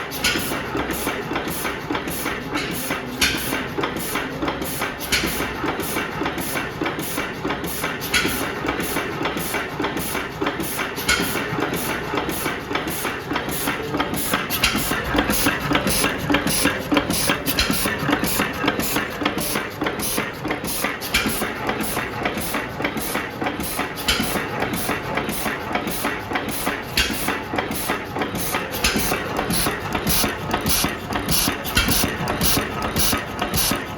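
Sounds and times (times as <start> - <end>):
stationary engine clattering: 0.0 - 33.9.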